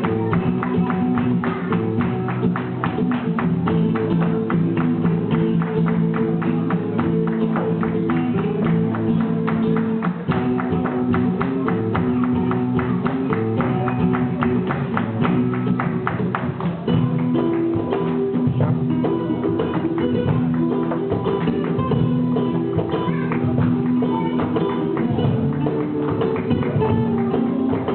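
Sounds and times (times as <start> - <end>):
flamenco music: 0.0 - 27.9.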